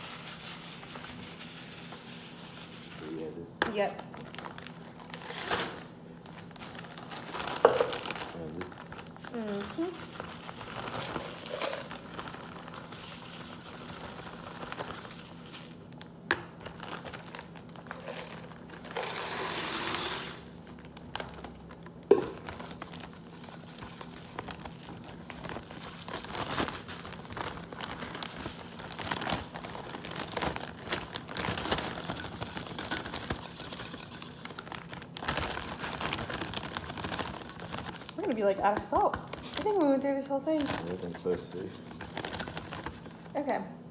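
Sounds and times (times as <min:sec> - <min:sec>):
plastic bag crinkling: 0:03.8 - 0:16.0, 0:16.6 - 0:43.5.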